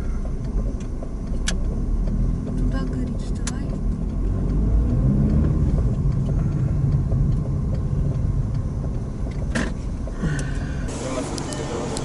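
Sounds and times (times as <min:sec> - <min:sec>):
car engine from inside cabin: 0:00.0 - 0:12.0
road noise: 0:00.0 - 0:12.0.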